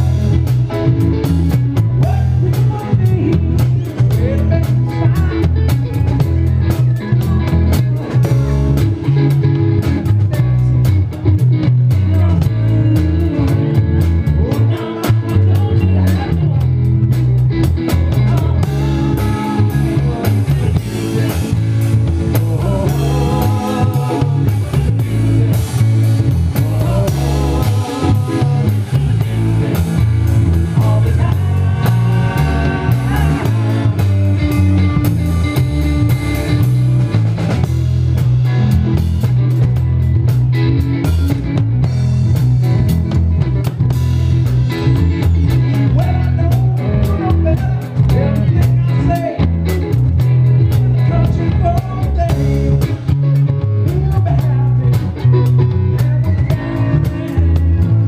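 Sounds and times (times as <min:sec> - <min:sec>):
drum kit: 0:00.0 - 0:58.0
electric bass: 0:00.0 - 0:58.0
electric guitar: 0:00.0 - 0:58.0.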